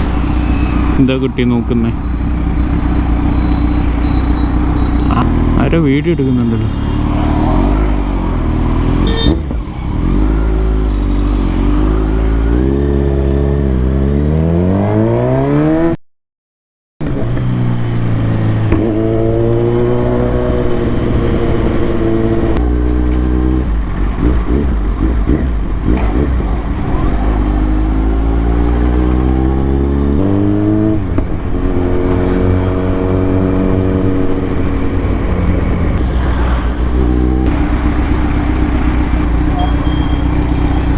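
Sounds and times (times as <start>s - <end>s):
motorcycle engine revving through gears: 0.0s - 16.0s, 17.0s - 40.9s.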